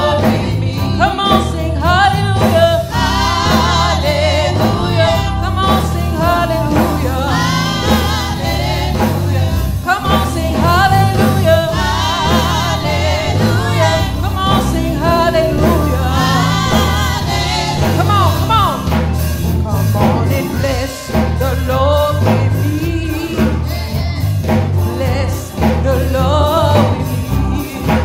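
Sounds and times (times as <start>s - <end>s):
group singing gospel: 0.0s - 28.0s
live band accompaniment: 0.0s - 28.0s
steady bass line: 0.0s - 28.0s.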